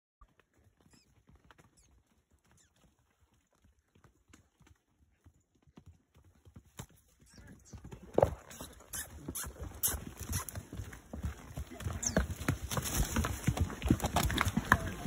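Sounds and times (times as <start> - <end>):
mule hoofbeats on rocky trail: 0.2 - 15.0.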